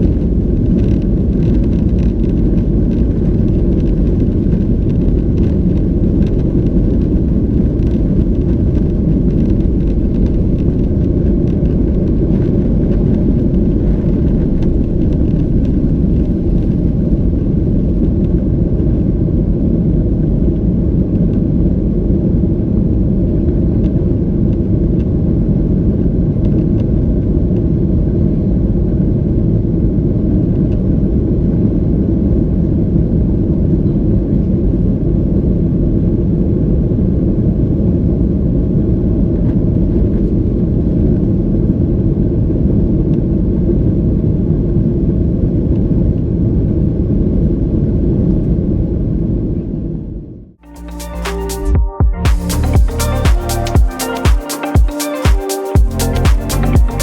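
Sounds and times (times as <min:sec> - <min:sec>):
airplane cabin engine rumble: 0:00.0 - 0:50.5.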